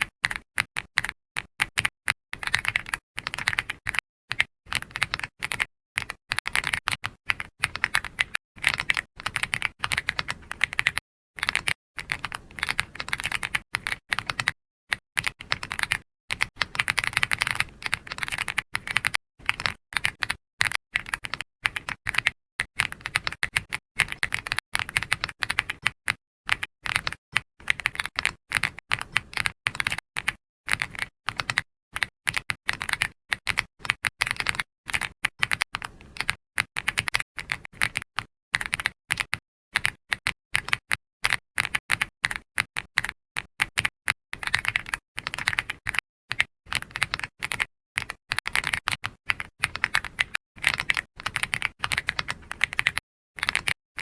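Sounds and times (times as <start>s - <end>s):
computer keyboard typing: 0.2s - 53.8s.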